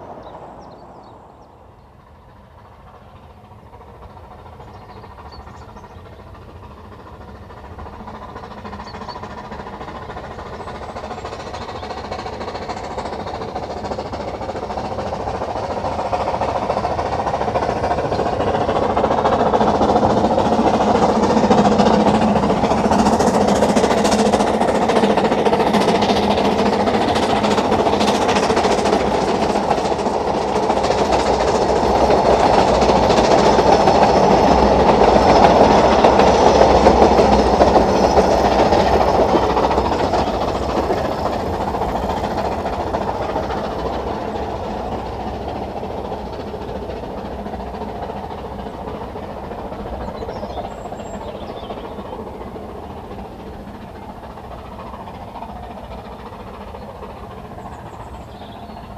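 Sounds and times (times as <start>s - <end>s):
steam train passing: 0.0s - 58.9s
train wheels on rails: 0.0s - 58.9s.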